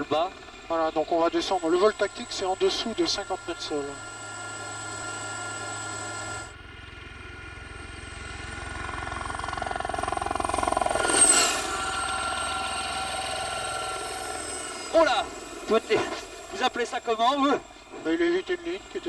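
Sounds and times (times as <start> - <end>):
helicopter cabin noise: 0.0 - 19.0
helicopter flying past: 0.0 - 19.0
high turbine whine: 0.0 - 19.0.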